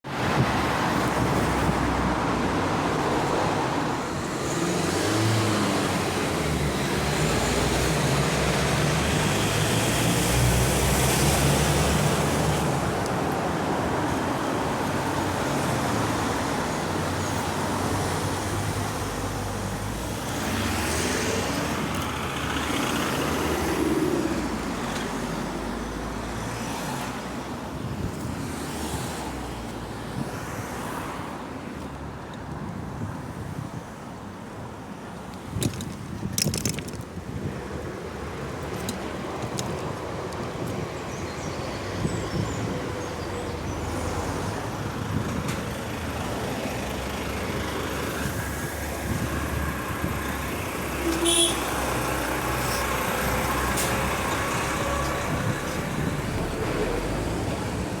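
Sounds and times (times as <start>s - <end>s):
passing road traffic: 0.0s - 58.0s.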